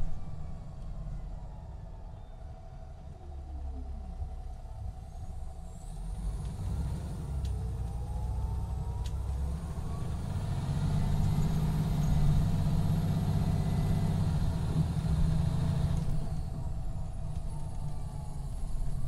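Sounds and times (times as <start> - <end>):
diesel bus engine running: 0.0 - 19.0.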